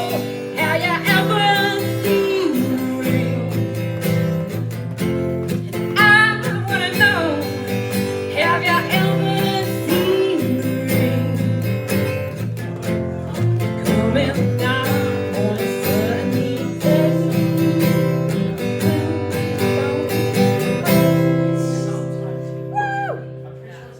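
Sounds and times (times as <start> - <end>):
bending guitar lead line: 0.0 - 23.6
strummed acoustic guitar: 0.0 - 23.9.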